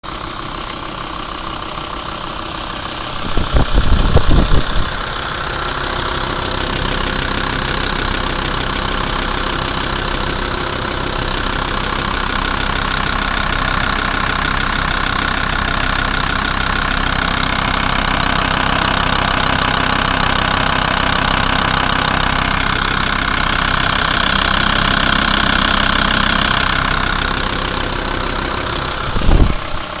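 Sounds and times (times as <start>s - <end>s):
diesel engine idling with knock: 0.0s - 30.0s.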